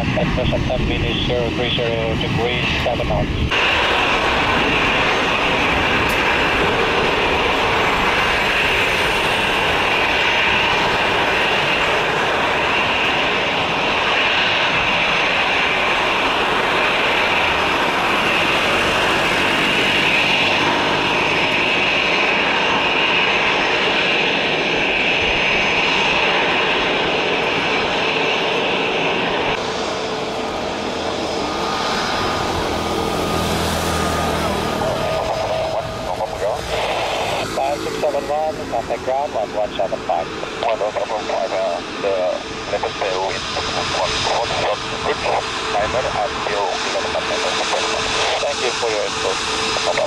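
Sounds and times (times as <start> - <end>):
jet engines whining: 0.0 - 50.0.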